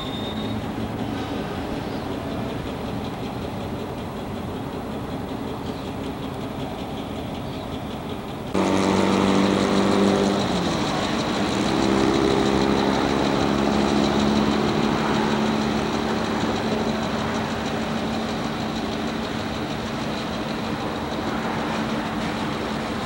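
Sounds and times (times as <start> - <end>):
diesel locomotive engines running: 0.0 - 23.0.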